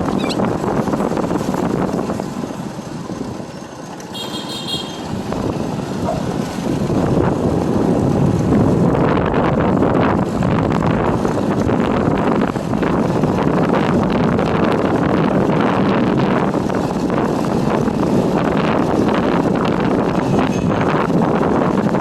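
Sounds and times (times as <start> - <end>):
wind buffeting microphone: 0.0 - 3.6, 5.0 - 22.0
motorbike engine and road noise: 0.0 - 22.0.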